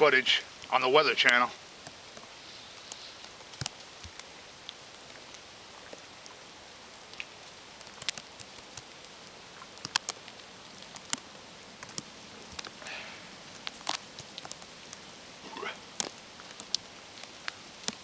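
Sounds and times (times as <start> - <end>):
wet snow pattering through trees: 0.0 - 18.0.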